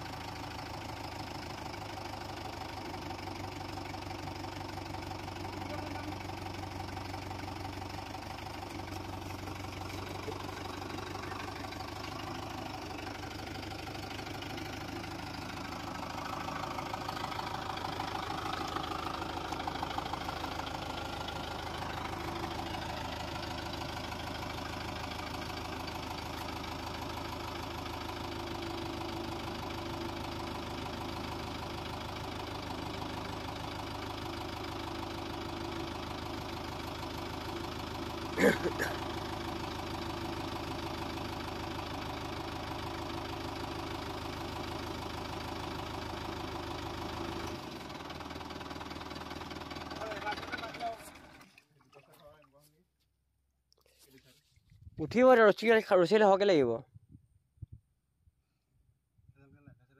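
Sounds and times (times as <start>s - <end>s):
tractor diesel engine running: 0.0s - 51.6s.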